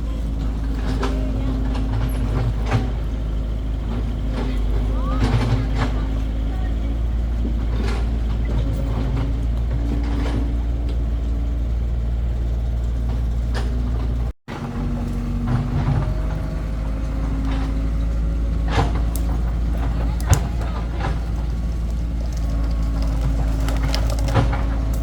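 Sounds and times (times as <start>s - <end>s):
heavy engine droning: 0.0s - 25.0s.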